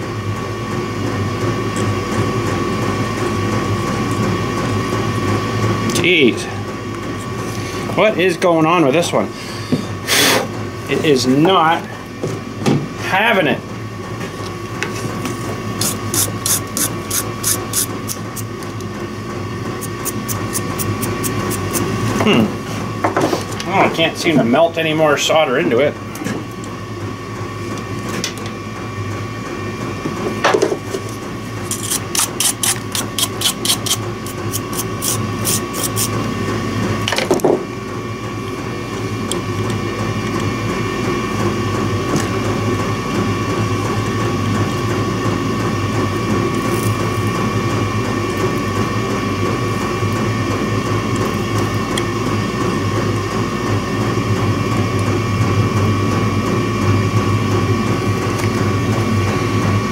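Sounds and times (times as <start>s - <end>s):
machine hum with high whine: 0.0s - 59.9s.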